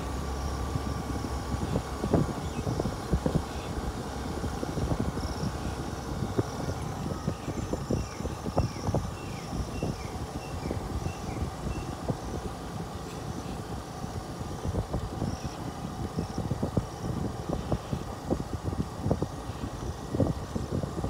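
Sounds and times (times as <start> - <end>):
vehicle rumbling on rough track: 0.0 - 21.0.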